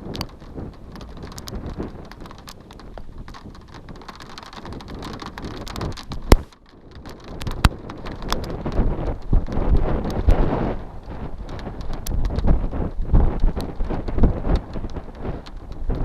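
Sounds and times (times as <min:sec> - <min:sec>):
raindrops ticking: 0:00.0 - 0:16.0
wind rumbling on microphone: 0:00.0 - 0:16.0.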